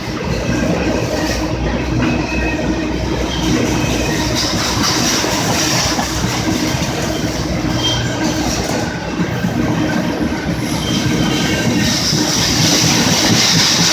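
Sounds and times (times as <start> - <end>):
freight train rumbling past: 0.0 - 13.9
high wheel squeal: 0.0 - 13.9.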